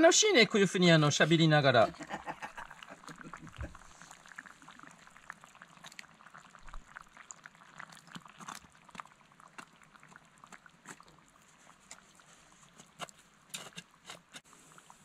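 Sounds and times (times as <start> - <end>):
stew bubbling: 0.0 - 15.0.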